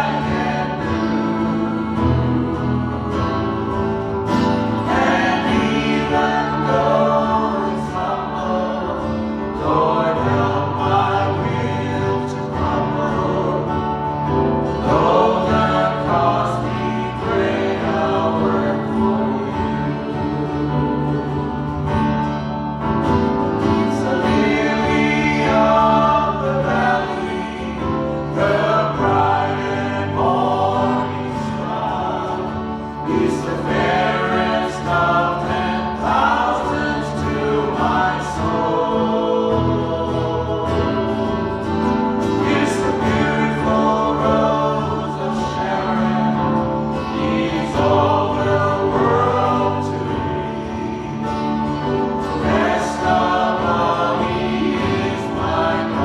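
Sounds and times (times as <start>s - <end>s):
choir singing gospel: 0.0s - 56.0s
instrumental backing with bass: 0.0s - 56.0s.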